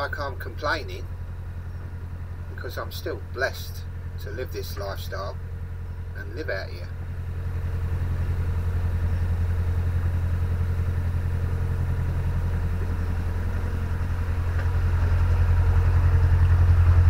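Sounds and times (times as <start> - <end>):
boat diesel engine running: 0.0 - 17.0.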